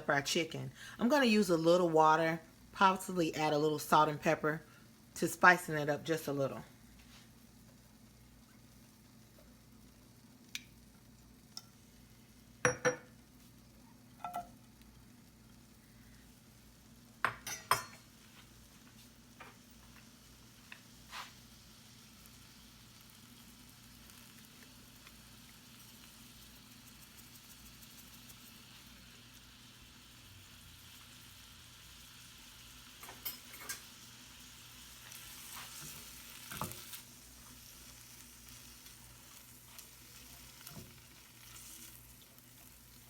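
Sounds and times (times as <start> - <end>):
faint sizzle: 0.0 - 43.0.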